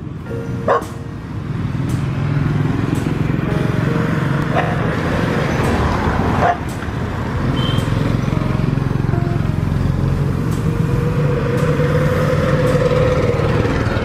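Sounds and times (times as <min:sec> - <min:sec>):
motorbike engine running: 0:00.3 - 0:14.0.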